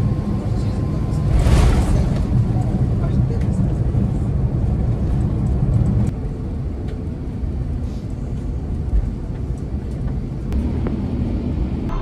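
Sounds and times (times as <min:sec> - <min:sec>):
moving vehicle rumble: 0:00.1 - 0:12.0.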